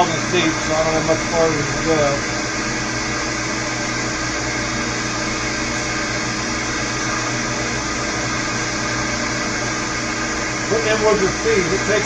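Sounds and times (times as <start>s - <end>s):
milling machine whirring: 0.0s - 12.0s.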